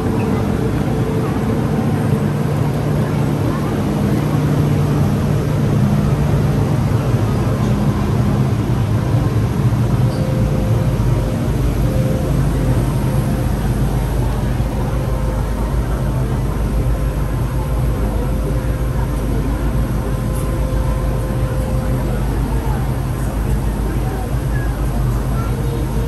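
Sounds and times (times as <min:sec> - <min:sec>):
faint traction motor tones: 0:00.0 - 0:26.0
train rumble inside carriage: 0:00.0 - 0:26.0.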